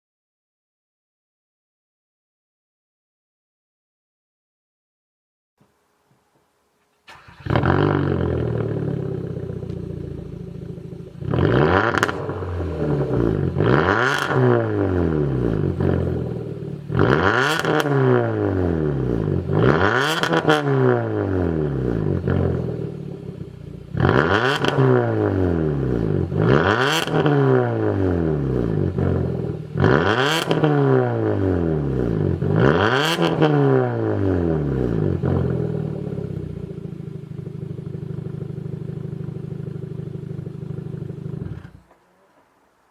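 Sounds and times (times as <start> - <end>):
car engine starting and revving: 7.0 - 41.9.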